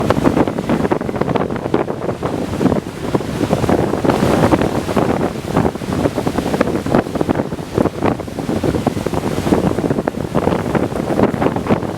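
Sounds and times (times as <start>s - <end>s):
heavy surf rushing: 0.0s - 11.9s
strong wind gusting: 0.0s - 11.9s.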